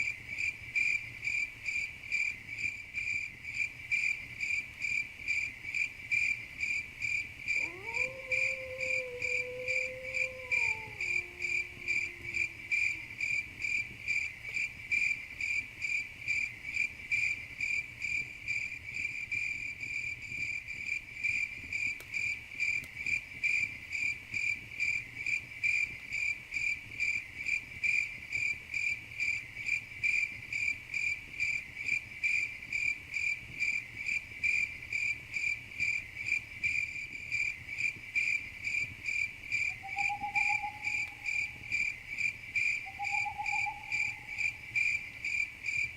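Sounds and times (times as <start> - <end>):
cricket chirping: 0.0 - 45.9
faint lower insect call: 0.0 - 45.9.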